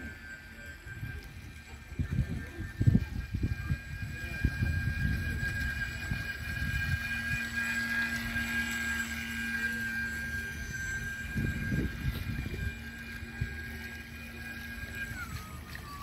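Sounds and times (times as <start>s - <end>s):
model boat motor whining: 0.0s - 16.0s
wind on microphone: 0.0s - 16.0s.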